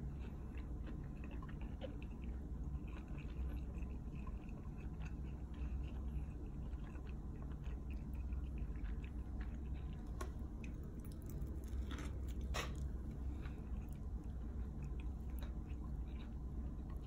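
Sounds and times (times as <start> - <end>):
chewing pizza with crunchy crust: 0.0 - 17.0
steady low hum: 0.0 - 17.0.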